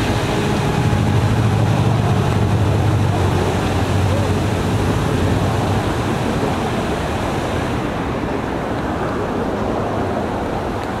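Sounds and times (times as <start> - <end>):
fountain water splashing: 0.0 - 9.5.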